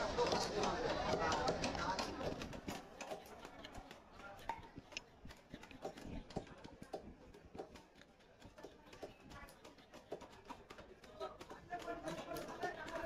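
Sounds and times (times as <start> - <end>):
faint chatter: 0.0 - 13.0.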